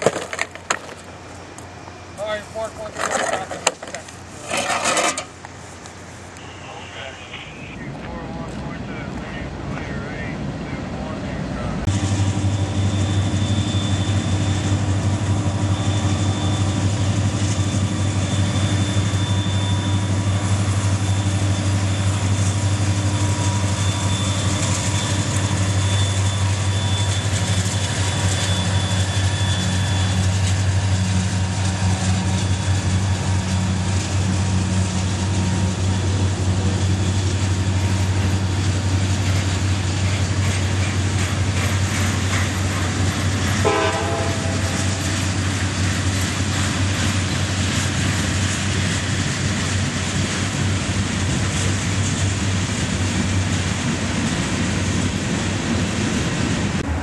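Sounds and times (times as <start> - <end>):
train wheels rolling on rails: 0.0 - 6.4, 11.6 - 57.0
locomotive drone: 0.0 - 57.0.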